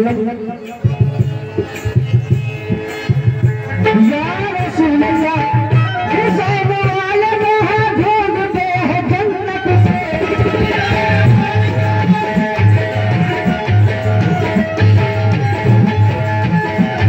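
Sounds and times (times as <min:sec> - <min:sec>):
hand-drum beat: 0:00.0 - 0:17.0
held instrumental notes: 0:00.0 - 0:17.0.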